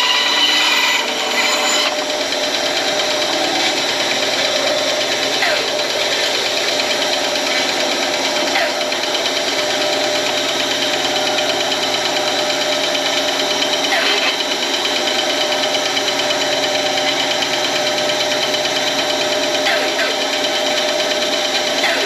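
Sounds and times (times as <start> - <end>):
power tool motor humming: 0.0 - 22.0.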